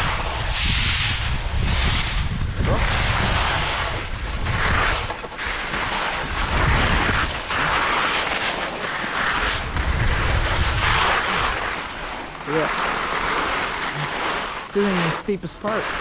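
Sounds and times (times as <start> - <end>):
skis scraping across snow: 0.0 - 16.0
wind rumbling on microphone: 0.0 - 16.0.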